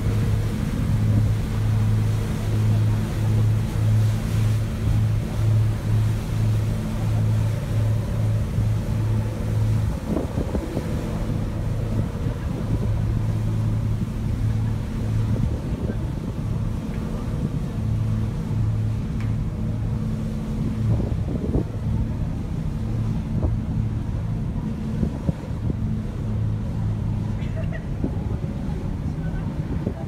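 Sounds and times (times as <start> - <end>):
ferry engines droning: 0.0 - 30.0
wind buffeting the microphone: 0.0 - 30.0.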